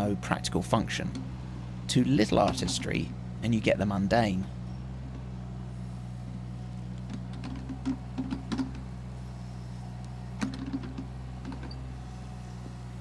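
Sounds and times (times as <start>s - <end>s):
excavator engine humming: 0.0s - 13.0s.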